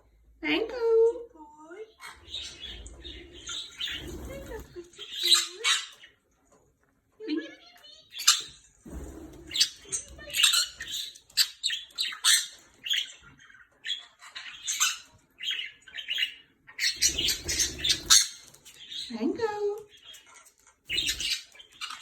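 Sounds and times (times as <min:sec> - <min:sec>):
parrot squawking and chirping: 0:01.8 - 0:06.2, 0:07.5 - 0:19.1, 0:19.9 - 0:22.0.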